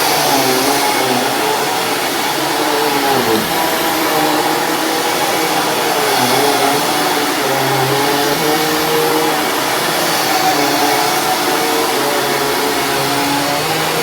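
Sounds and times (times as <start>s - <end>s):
upright vacuum cleaner running: 0.0s - 14.0s.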